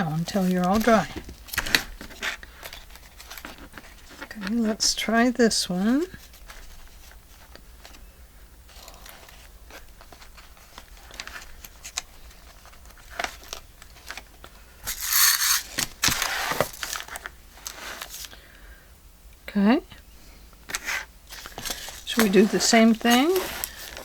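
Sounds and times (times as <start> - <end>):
crinkling and rustling: 0.0 - 4.8, 5.9 - 8.0, 8.7 - 18.4, 20.7 - 24.0.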